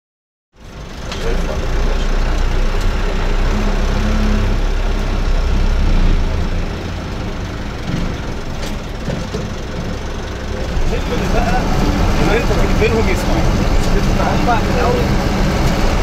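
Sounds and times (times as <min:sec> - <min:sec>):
road noise: 0:00.6 - 0:16.0
vehicle engine rumble: 0:00.6 - 0:16.0.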